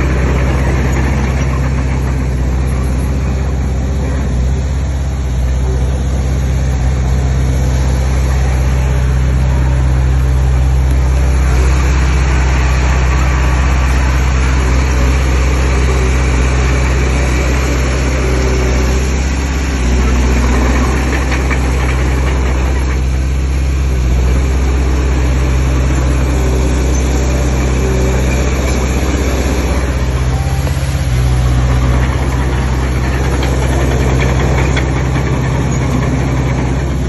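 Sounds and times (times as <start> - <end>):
heavy machinery diesel engine: 0.0 - 37.0.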